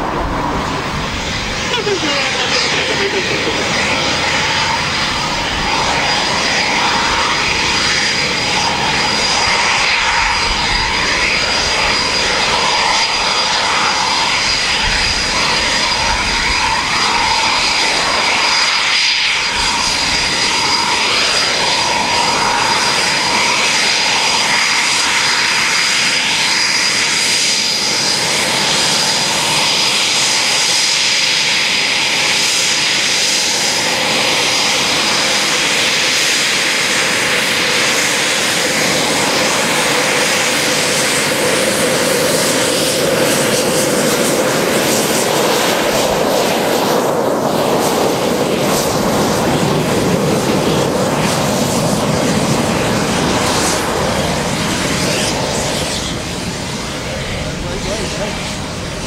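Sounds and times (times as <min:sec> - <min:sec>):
jet engines high-pitched whine: 0:00.0 - 0:59.0.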